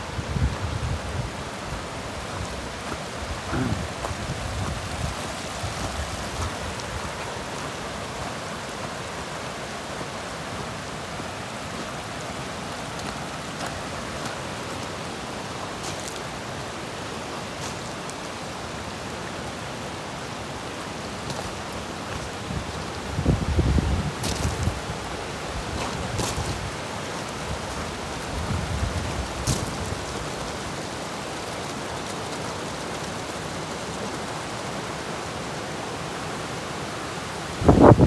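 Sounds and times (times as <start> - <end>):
heavy rain hissing: 0.0 - 38.0.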